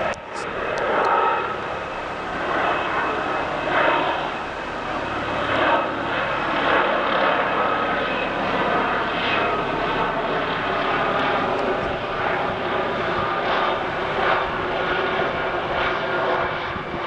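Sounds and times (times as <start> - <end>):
faint turbine whine: 0.0 - 17.0
helicopter flying overhead: 0.0 - 17.0.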